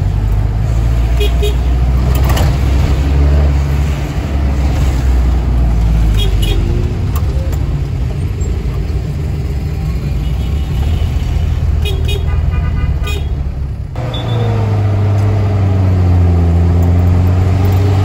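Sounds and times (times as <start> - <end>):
minibus engine droning: 0.0 - 18.0.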